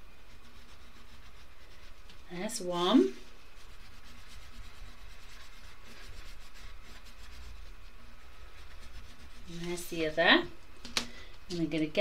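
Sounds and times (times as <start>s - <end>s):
pencil scribbling on paper: 0.3s - 10.3s.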